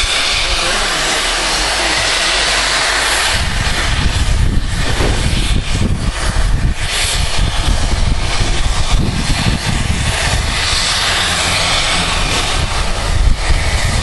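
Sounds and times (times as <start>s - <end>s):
locomotive exhaust beats: 0.0s - 14.0s
low rumble: 0.0s - 14.0s
steam hissing from drain cocks: 0.0s - 14.0s.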